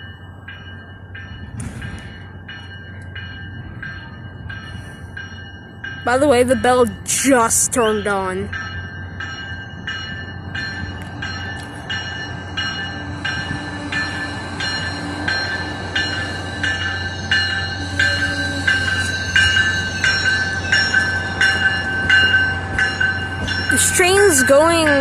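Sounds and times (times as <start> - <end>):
locomotive bell ringing: 0.0 - 25.0
train rumbling: 0.0 - 25.0.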